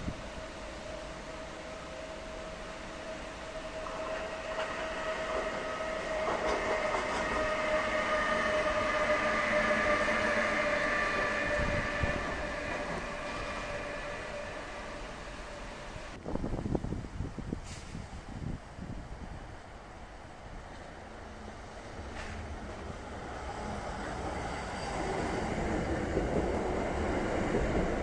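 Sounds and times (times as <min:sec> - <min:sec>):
electric locomotive running: 0:00.0 - 0:16.2, 0:20.8 - 0:28.0
train rolling noise: 0:00.0 - 0:28.0.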